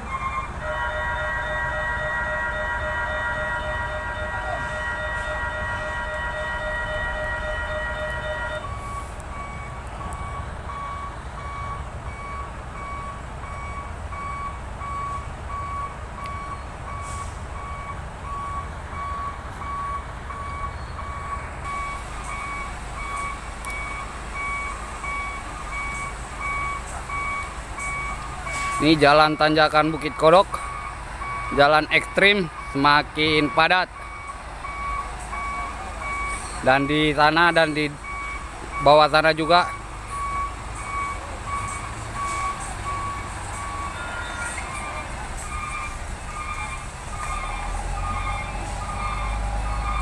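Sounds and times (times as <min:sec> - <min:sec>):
truck engines rumbling: 0:00.0 - 0:50.0
truck reversing alarm beeps: 0:00.0 - 0:50.0.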